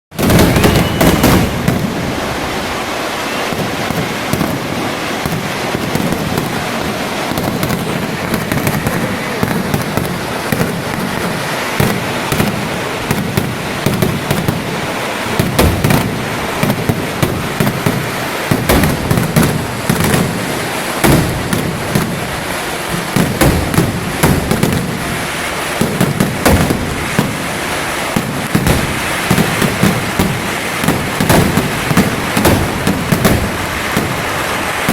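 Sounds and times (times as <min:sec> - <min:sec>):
firecracker cracks and bangs: 0:00.1 - 0:34.9
heavy continuous rumble: 0:00.1 - 0:34.9.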